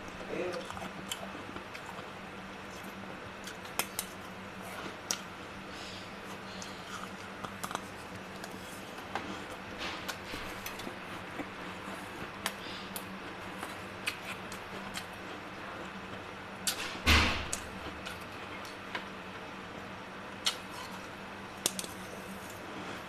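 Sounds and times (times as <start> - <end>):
low freezer hum: 0.0 - 23.0.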